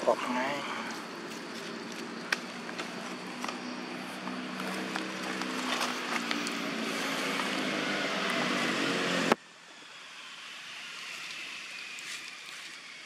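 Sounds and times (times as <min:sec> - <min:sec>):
loud rushing outdoor noise: 0:00.0 - 0:11.6.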